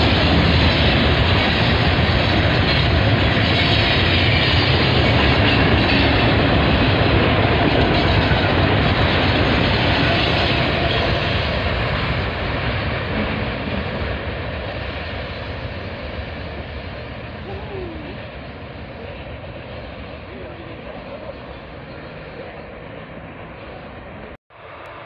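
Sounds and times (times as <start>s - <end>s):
train rolling on rails: 0.0s - 25.0s.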